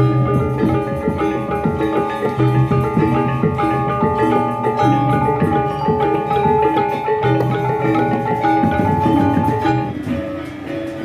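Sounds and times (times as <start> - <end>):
gamelan ensemble playing: 0.0 - 11.0.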